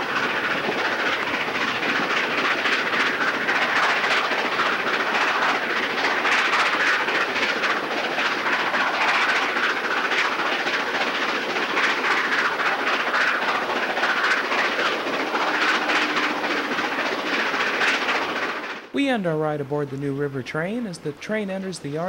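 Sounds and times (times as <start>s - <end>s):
steam locomotive exhaust: 0.0s - 22.0s
train wheels clattering on rails: 0.0s - 22.0s.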